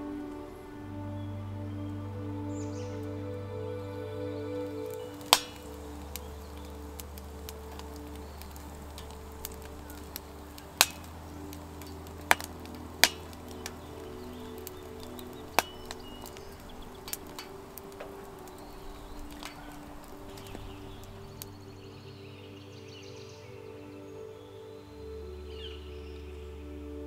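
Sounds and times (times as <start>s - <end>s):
soft ambient music: 0.0s - 27.0s.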